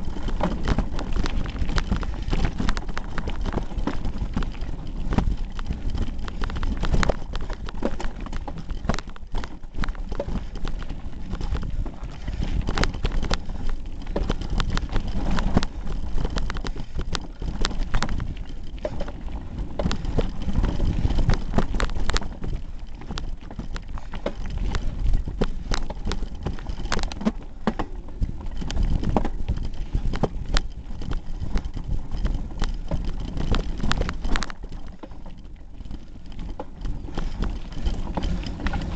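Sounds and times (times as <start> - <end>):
bike rattling over rocks: 0.0 - 38.9.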